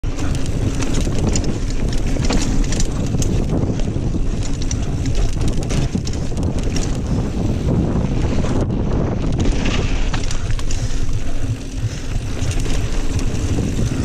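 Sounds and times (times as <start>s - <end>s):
bike clicks and rattles: 0.0s - 14.0s
wind buffeting microphone: 0.0s - 14.0s.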